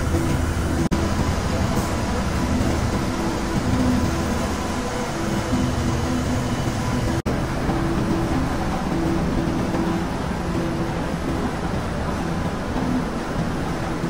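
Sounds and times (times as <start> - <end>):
faint hum: 0.0 - 14.0
textile mill machinery drone: 0.0 - 14.0.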